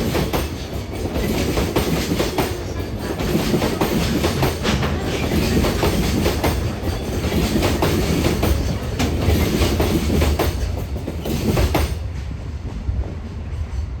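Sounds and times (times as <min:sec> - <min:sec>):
train rumble: 0:00.0 - 0:14.0
train wheels clacking: 0:00.0 - 0:14.0.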